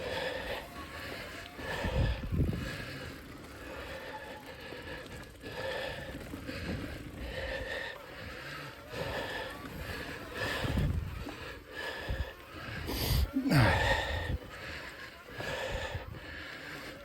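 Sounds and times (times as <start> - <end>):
heavy labored breathing: 0.0 - 17.0.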